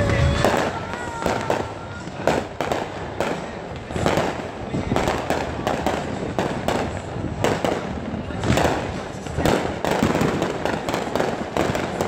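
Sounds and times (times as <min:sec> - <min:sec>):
firework shells exploding: 0:00.0 - 0:12.0.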